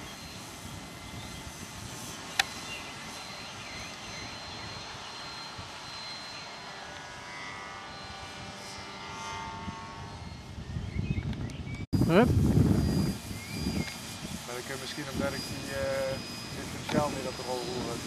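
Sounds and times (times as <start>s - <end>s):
model plane motor whine: 0.0s - 18.0s.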